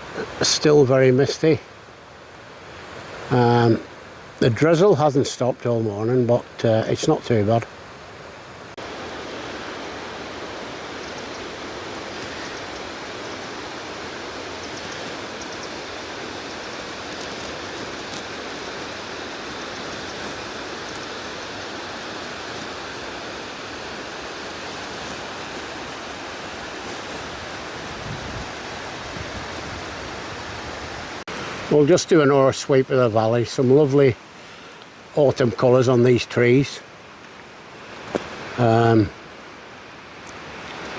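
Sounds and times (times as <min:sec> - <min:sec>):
river and waterfalls rushing: 0:00.0 - 0:40.9.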